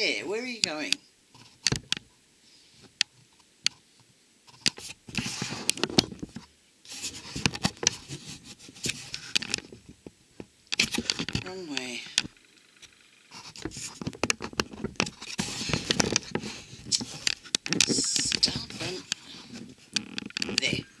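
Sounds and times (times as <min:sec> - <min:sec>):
scraping and rustling: 0:01.3 - 0:12.4, 0:13.3 - 0:21.0
clicks and light knocks: 0:02.8 - 0:21.0.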